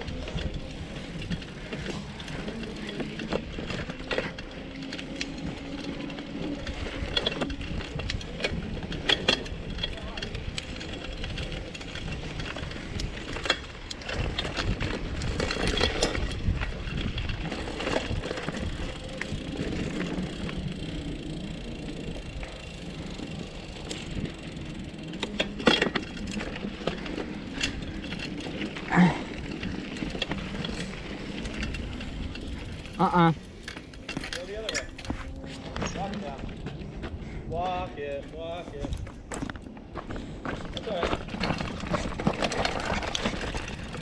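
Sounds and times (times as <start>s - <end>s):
bicycle rattling over rough trail: 0.0s - 44.0s.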